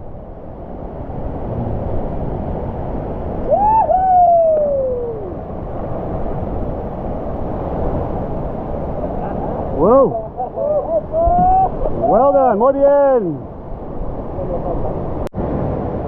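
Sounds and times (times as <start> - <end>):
waterfall rushing: 0.4 - 16.0.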